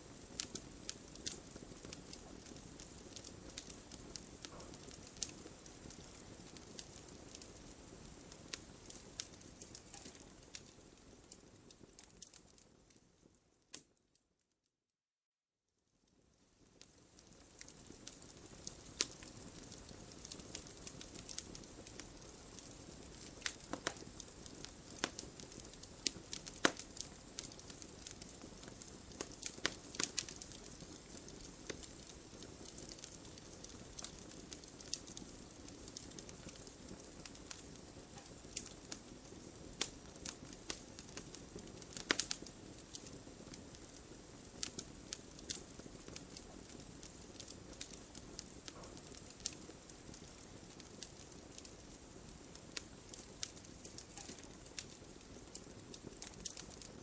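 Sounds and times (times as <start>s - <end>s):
wood fire crackling: 0.0s - 14.0s, 16.0s - 57.0s.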